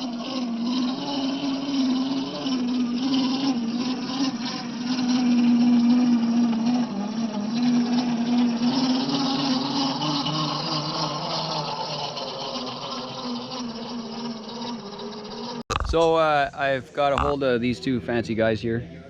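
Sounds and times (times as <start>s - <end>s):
electric motor and gears whining: 0.0s - 17.4s.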